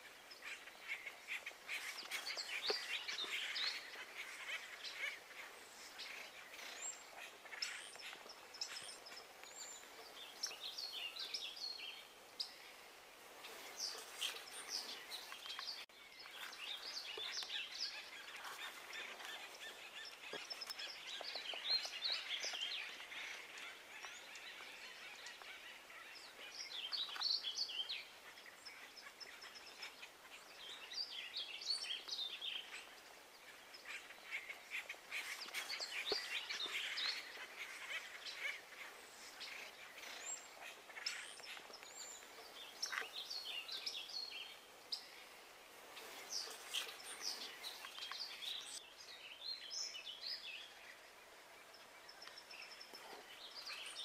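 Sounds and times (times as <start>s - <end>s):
faint outdoor hiss: 0.0s - 54.0s
small birds chirping: 0.0s - 54.0s.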